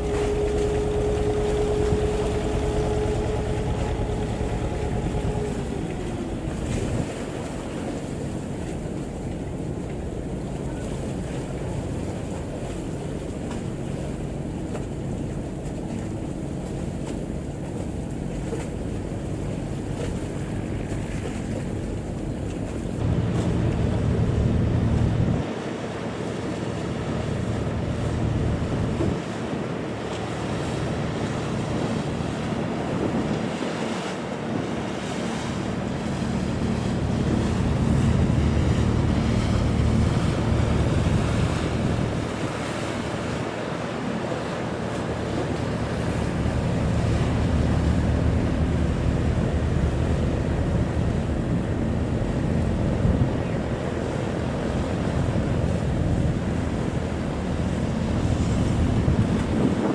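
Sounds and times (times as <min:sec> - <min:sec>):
low steady hum: 0:00.0 - 0:25.5, 0:35.6 - 0:59.7
sea waves: 0:00.0 - 0:59.9
wind buffeting microphone: 0:00.0 - 0:59.9.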